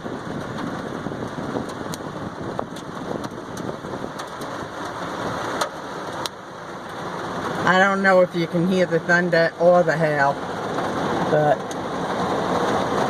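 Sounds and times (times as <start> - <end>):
hail ticking: 0.0 - 13.0
heavy rain drumming on car roof: 0.0 - 13.0.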